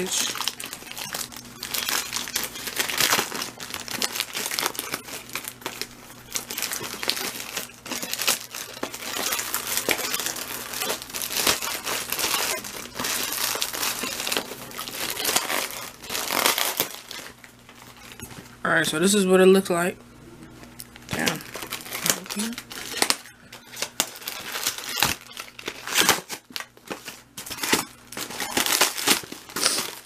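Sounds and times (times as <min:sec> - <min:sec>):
plastic bag crinkling and tearing: 0:00.0 - 0:18.2, 0:21.0 - 0:30.0.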